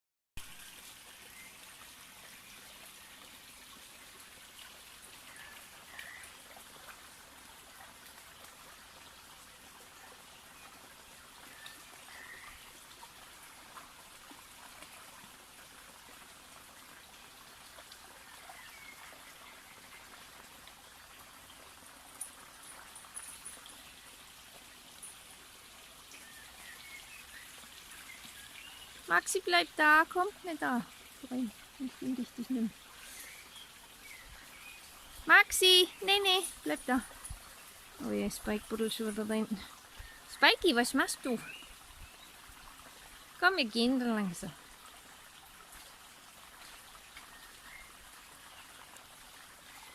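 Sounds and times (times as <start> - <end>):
water trickling: 0.4 - 49.9.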